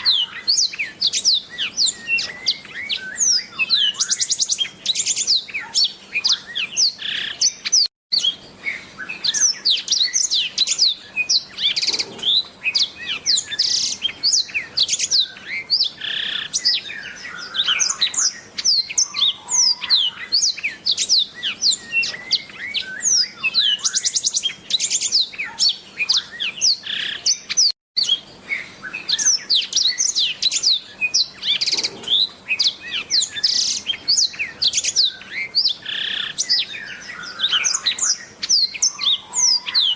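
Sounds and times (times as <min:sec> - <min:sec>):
canary singing high chirps and trills: 0:00.0 - 0:39.9.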